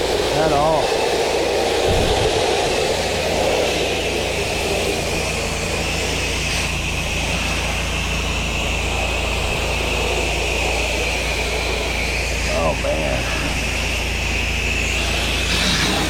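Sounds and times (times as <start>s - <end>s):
high whine: 0.0s - 16.0s
pump engine hum: 0.0s - 16.0s
water jet hissing: 0.0s - 16.0s.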